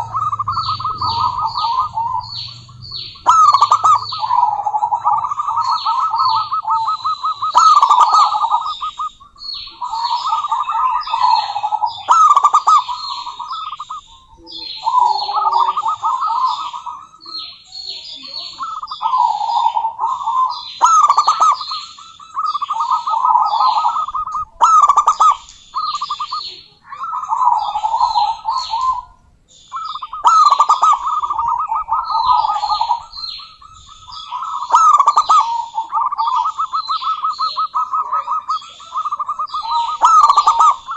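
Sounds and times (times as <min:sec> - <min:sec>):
dove cooing staccato: 0:00.0 - 0:40.9
high chirping runs: 0:00.0 - 0:40.9.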